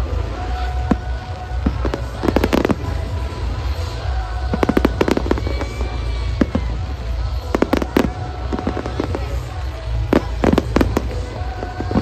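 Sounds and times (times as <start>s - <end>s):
firework bangs: 0.5s - 12.0s.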